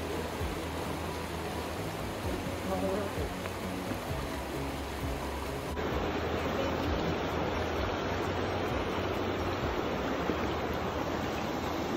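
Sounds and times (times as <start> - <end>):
river water running over rocks: 0.0 - 11.9.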